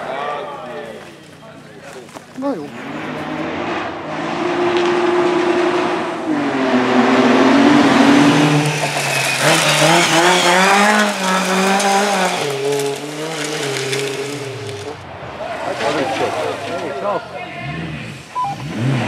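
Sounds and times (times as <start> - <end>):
rally car engine revving: 2.6 - 19.0.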